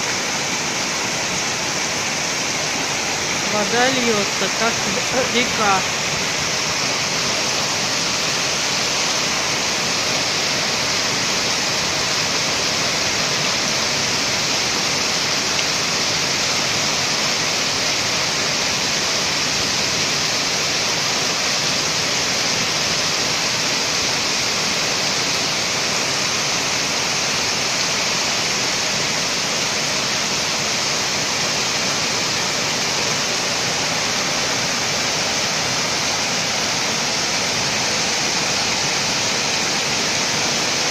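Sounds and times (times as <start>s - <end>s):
torrential rain: 0.0s - 40.9s.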